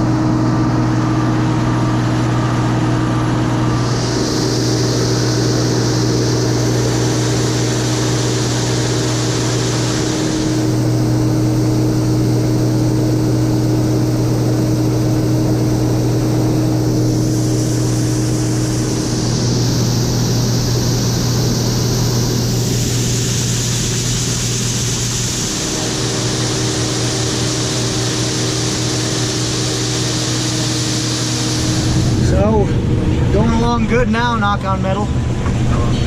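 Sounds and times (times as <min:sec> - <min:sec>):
combine harvester drone: 0:00.0 - 0:36.0
high hiss: 0:03.7 - 0:32.7.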